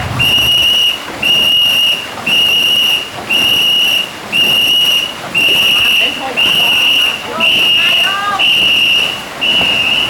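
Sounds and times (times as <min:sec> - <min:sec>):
whistle long blasts: 0:00.0 - 0:10.0.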